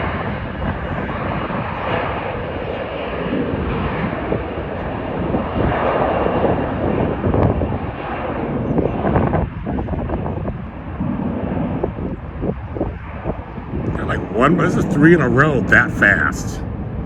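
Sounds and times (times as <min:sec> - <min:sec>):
jet airliner taking off: 0:00.0 - 0:17.0.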